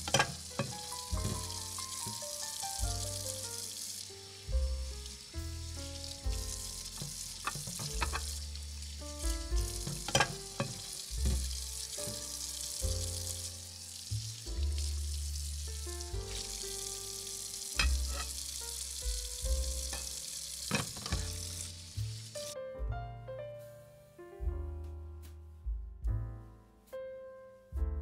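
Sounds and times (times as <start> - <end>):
stew sizzling and bubbling: 0.0 - 22.6
background music: 0.0 - 28.0.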